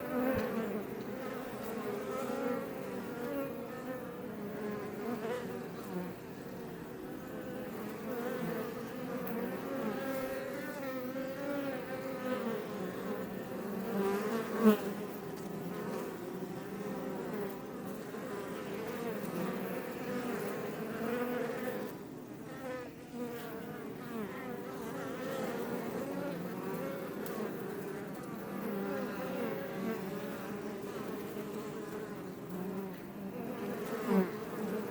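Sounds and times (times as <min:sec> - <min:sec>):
bees buzzing: 0:00.0 - 0:34.9.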